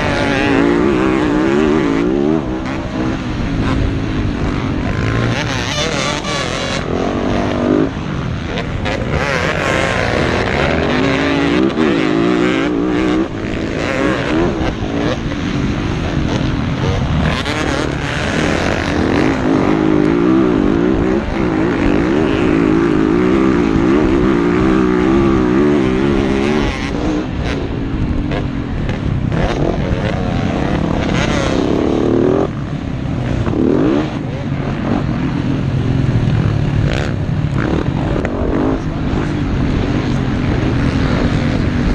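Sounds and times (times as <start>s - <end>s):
motorcycle engines racing: 0.0s - 41.9s.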